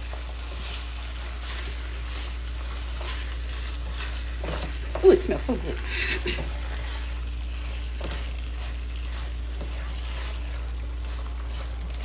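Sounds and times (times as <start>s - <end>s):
food sizzling in a skillet: 0.0s - 12.0s
spatula scraping a pan: 0.0s - 12.0s.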